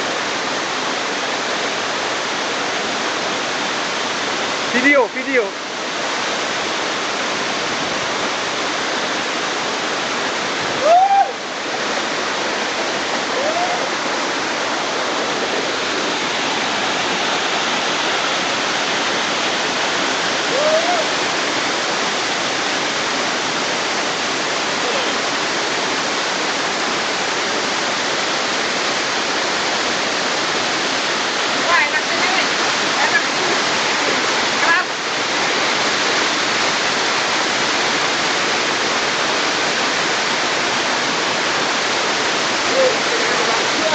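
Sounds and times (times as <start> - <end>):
waterfall pouring into pool: 0.0 - 43.9.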